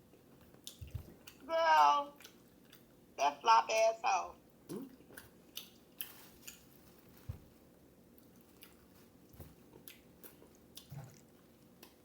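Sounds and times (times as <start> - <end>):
chewing food: 0.0 - 1.5, 2.1 - 3.1, 4.6 - 12.0.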